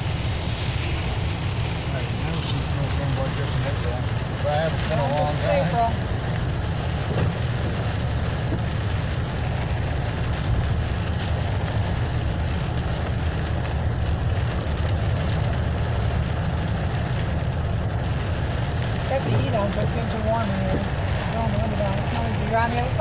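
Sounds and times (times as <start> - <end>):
car interior road rumble: 0.0 - 23.0.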